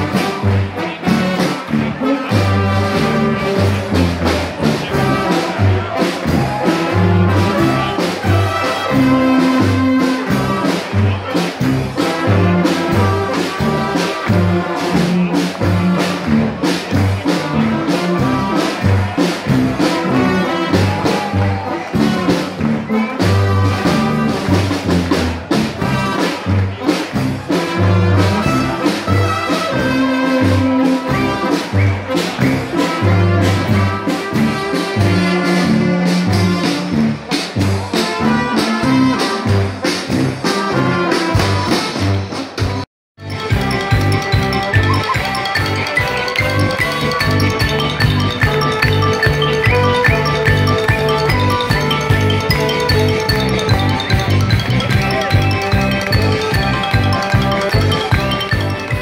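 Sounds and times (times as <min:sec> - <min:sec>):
brass band playing: 0:00.0 - 0:59.0.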